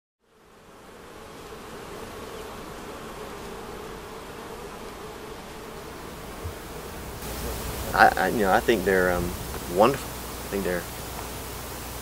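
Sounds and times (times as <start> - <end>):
honeybees buzzing: 0.3 - 12.0.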